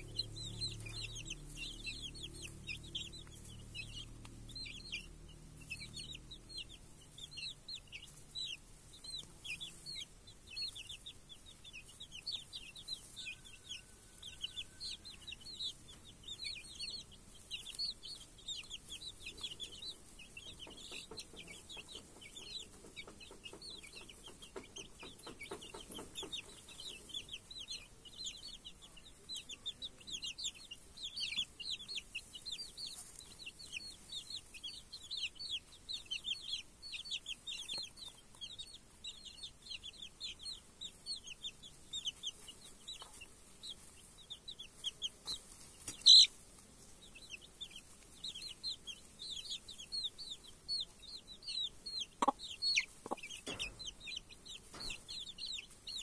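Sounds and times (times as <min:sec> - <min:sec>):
chicks peeping: 0:00.0 - 0:56.0
hen clucking: 0:00.0 - 0:56.0.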